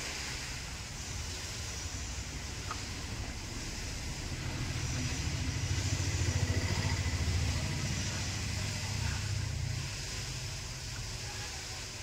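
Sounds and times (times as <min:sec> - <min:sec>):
engine low pulsing rumble: 0:00.0 - 0:12.0.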